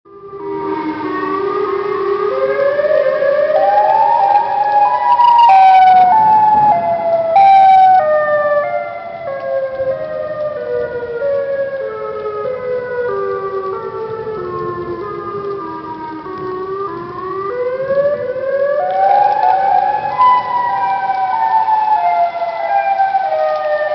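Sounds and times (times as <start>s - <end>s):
warning siren wailing: 0.1s - 23.9s.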